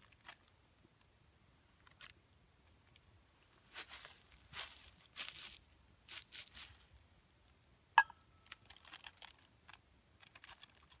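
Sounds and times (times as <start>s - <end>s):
rustling and crinkling gear: 0.0s - 1.1s, 1.8s - 7.7s, 8.4s - 11.0s.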